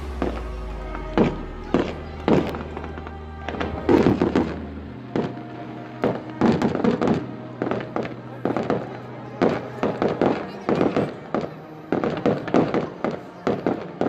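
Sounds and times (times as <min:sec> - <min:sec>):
fireworks bursting with sharp bangs: 0:00.0 - 0:14.0
music: 0:00.0 - 0:14.0.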